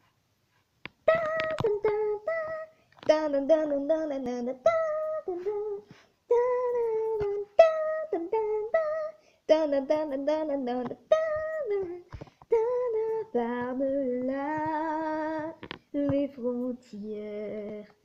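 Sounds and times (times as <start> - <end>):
woman singing slow melody: 1.0 - 18.0.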